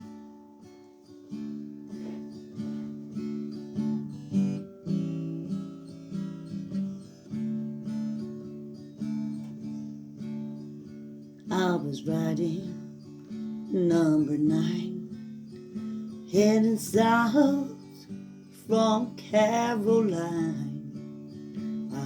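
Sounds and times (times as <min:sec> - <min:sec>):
guitar strumming chords: 0:00.0 - 0:22.0.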